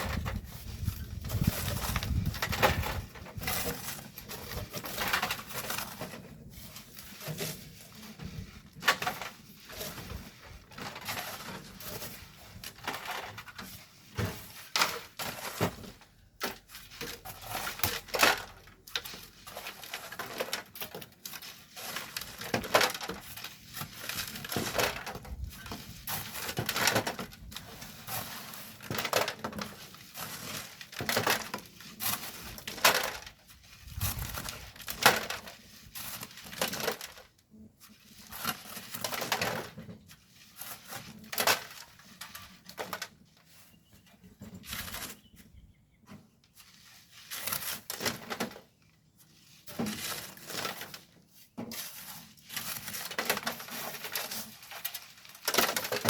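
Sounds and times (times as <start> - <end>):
shovel scraping into gravel: 0.0 - 37.1, 46.6 - 48.2, 49.3 - 56.0.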